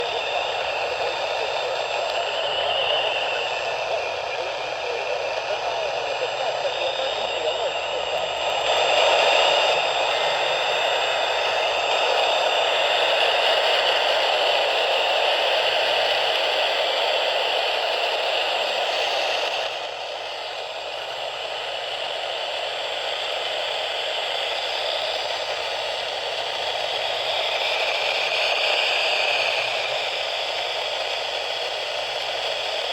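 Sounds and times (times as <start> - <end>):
radio static hiss: 0.0 - 32.9.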